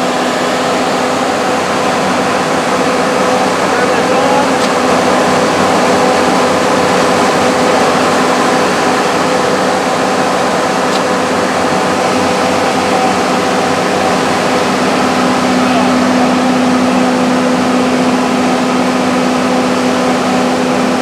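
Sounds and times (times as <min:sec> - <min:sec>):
diesel generator running: 0:00.0 - 0:21.0.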